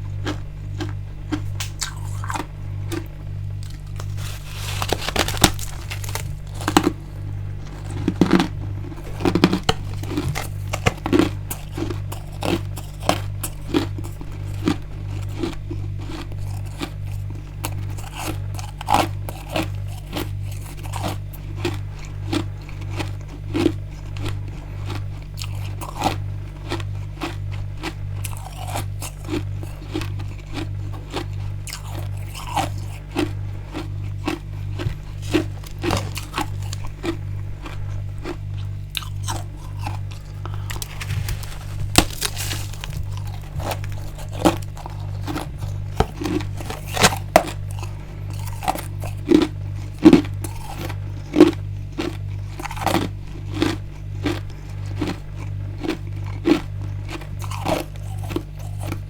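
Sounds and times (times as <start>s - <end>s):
chewing ice crunches: 0.0s - 59.0s
low pulsing hum: 0.0s - 59.0s.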